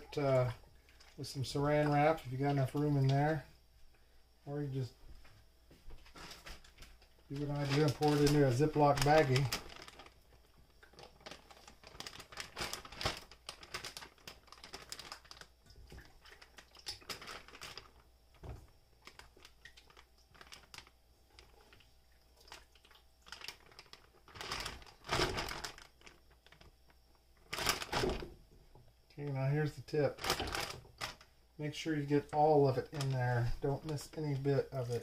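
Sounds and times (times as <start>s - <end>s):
plastic bag crinkling and rustling: 0.0s - 3.4s, 5.9s - 35.0s.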